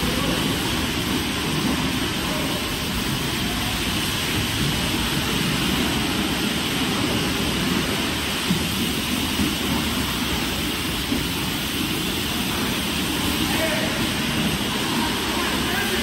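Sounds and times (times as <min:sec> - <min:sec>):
pressure washer spray hissing: 0:00.0 - 0:16.0.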